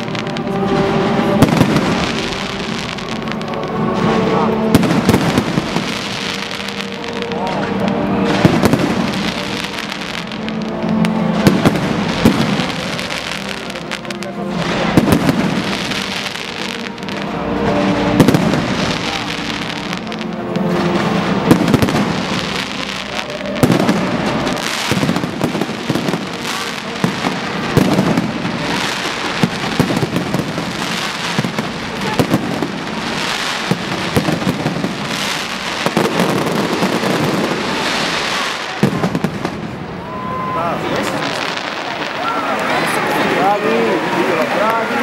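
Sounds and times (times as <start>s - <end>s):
fireworks bangs: 0.0s - 45.0s
fireworks crackling: 0.0s - 45.0s.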